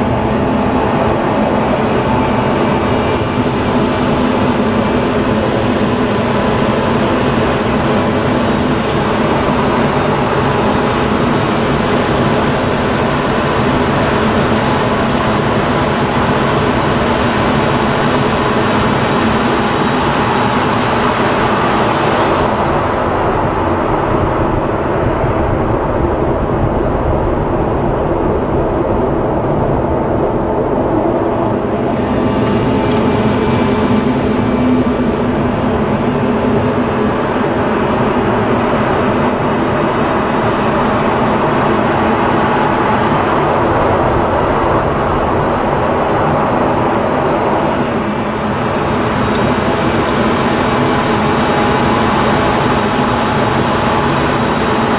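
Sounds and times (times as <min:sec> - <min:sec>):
jet engine and airflow rush: 0:00.0 - 0:54.9.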